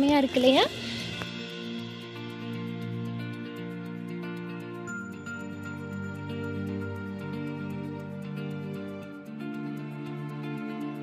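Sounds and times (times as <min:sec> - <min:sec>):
light ticking beat: 0:00.0 - 0:11.0
sustained music notes: 0:00.0 - 0:11.0.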